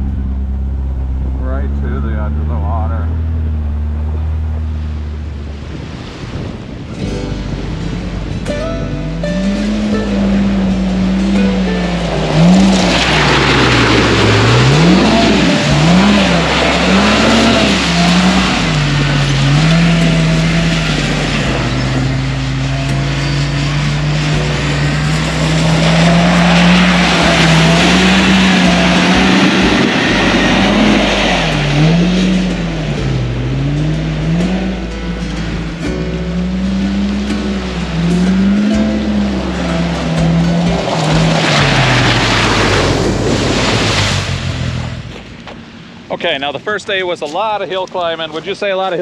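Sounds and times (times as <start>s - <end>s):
engine revving up and down: 0.0s - 8.5s, 9.1s - 45.4s
wind and tyre rushing: 0.0s - 48.8s.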